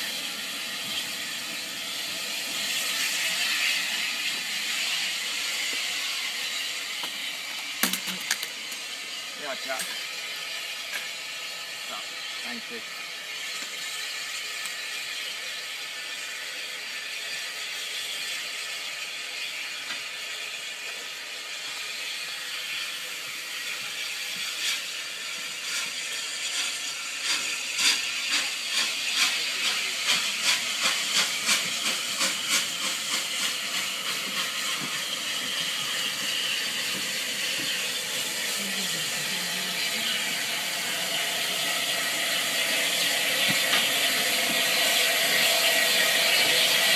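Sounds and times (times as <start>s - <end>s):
steam hissing: 0.0s - 46.9s
steam locomotive exhaust beats: 0.0s - 46.9s.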